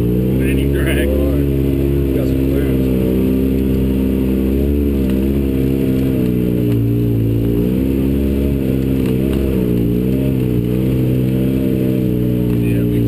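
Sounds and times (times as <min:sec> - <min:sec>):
off-road vehicle engine at low revs: 0:00.0 - 0:13.0.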